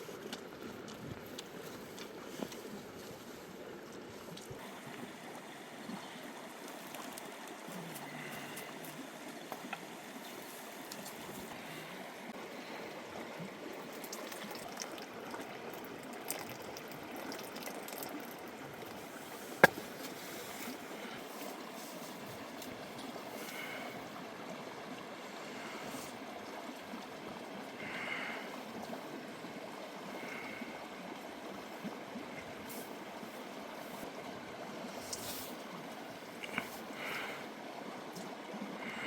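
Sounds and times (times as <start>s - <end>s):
water trickling: 0.0s - 39.0s.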